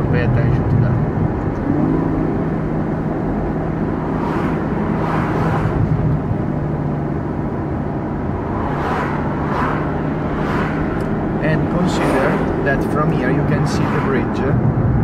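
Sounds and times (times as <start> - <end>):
car engine drone: 0.0 - 15.0
passing traffic: 0.0 - 15.0
wind and tyre noise: 0.0 - 15.0.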